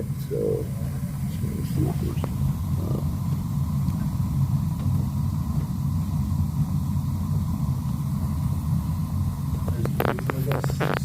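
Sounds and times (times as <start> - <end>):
boiler burners rumbling: 0.0 - 11.0.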